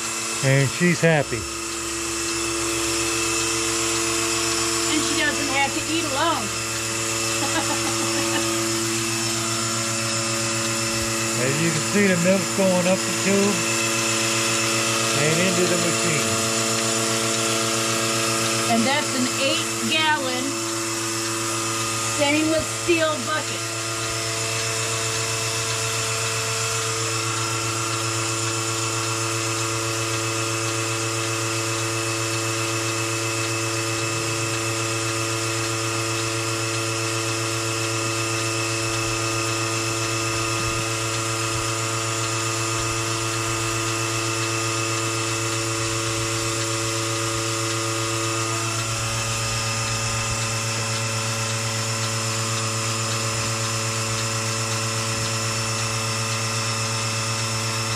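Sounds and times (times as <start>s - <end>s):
vacuum pump motor hum and whine: 0.0s - 57.9s.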